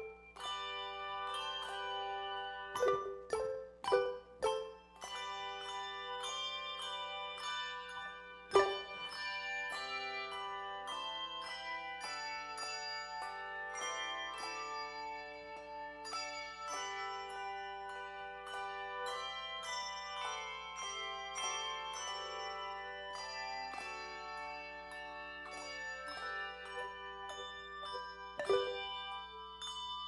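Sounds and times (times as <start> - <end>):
melody of ringing struck notes: 0.0 - 30.0.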